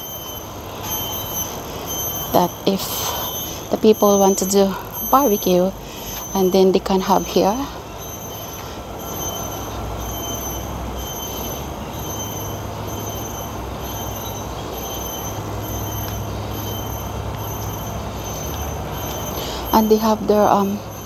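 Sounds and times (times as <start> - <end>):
low hum: 0.0 - 21.0
traffic rumble and hiss: 0.0 - 21.0.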